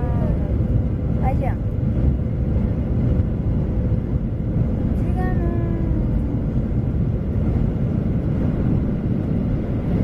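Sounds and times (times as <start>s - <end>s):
jet airliner cabin rumble: 0.0s - 10.0s.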